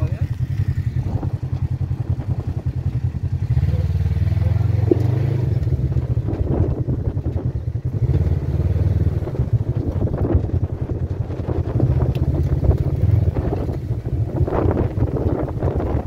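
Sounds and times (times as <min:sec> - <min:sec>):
wind on microphone: 0:00.0 - 0:03.6, 0:04.4 - 0:16.0
off-road vehicle engine running: 0:00.0 - 0:16.0.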